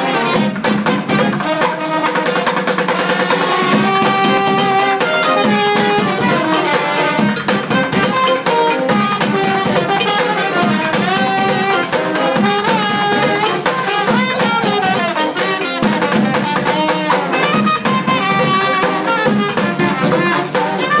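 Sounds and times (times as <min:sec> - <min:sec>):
plastic bucket drum: 0:00.0 - 0:21.0
saxophone: 0:00.0 - 0:21.0
trombone: 0:00.0 - 0:21.0
trumpet: 0:00.0 - 0:21.0
large drum beating: 0:02.4 - 0:21.0.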